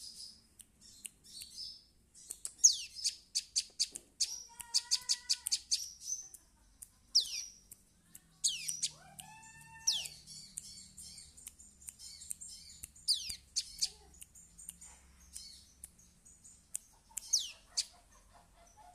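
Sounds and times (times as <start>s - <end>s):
bird ticking chirps: 0.0s - 18.9s.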